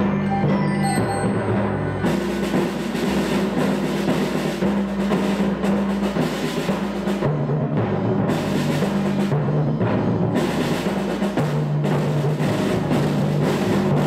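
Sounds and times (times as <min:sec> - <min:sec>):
drums: 0:00.0 - 0:14.0
mallet percussion: 0:00.0 - 0:14.0.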